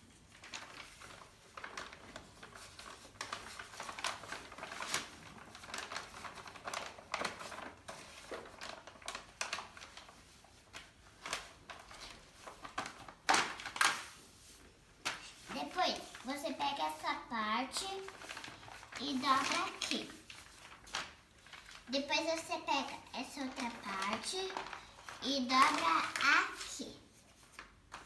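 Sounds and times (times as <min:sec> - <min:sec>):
paper rustling and crinkling: 0:00.0 - 0:28.0.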